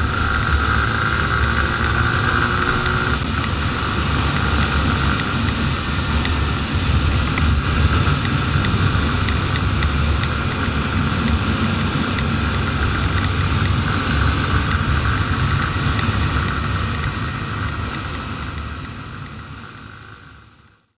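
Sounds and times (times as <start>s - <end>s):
wind rushing over microphone: 0.0s - 19.7s
motorcycle engine running: 0.0s - 21.0s.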